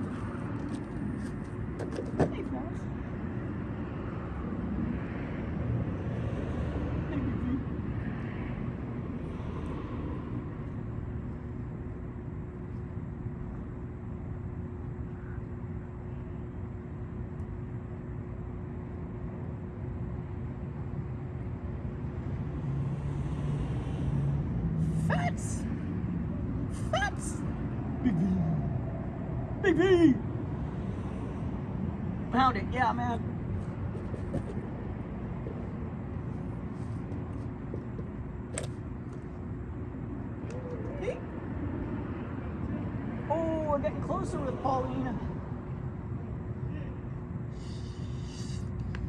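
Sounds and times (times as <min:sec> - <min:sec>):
constant mechanical hum: 0:00.0 - 0:49.0
low urban rumble: 0:00.0 - 0:49.0
lower hum: 0:00.0 - 0:49.0.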